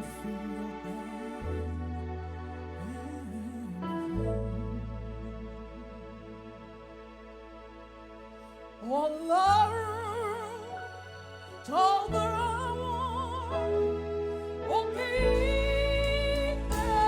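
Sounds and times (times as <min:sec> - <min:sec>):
sustained chords and bass: 0:00.0 - 0:17.0.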